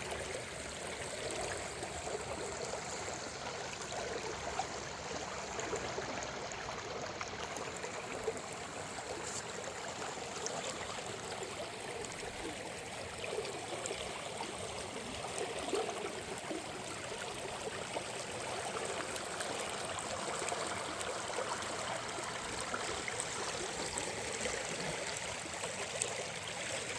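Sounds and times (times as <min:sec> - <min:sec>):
stream water flowing: 0:00.0 - 0:26.9.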